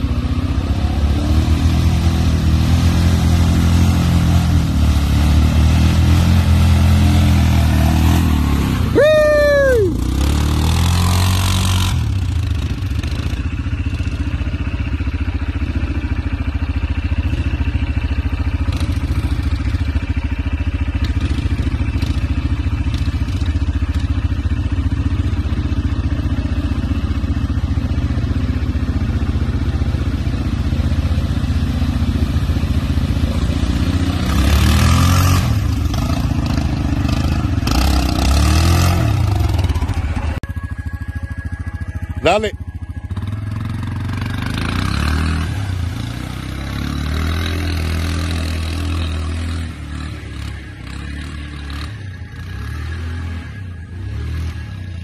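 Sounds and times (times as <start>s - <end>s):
atv engine droning: 0.0s - 55.0s.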